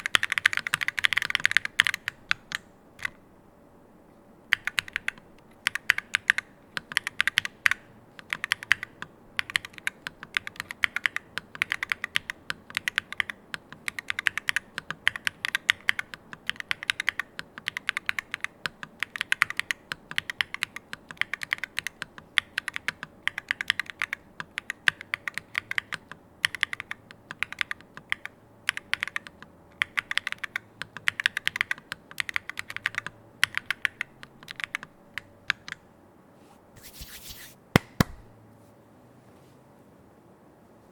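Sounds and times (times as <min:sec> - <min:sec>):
fast keyboard typing clacks: 0:00.0 - 0:02.1, 0:04.5 - 0:35.8.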